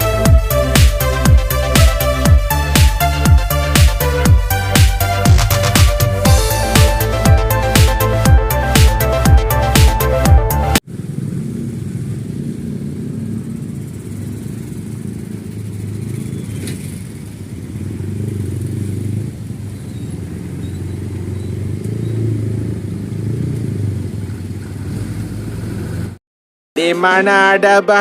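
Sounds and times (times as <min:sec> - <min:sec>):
motor vehicles rumbling: 0:00.0 - 0:26.2.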